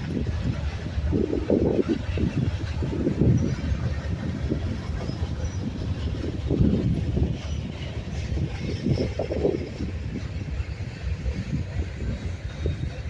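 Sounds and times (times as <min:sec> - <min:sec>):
train wheels clattering over rail joints: 0:00.0 - 0:13.0.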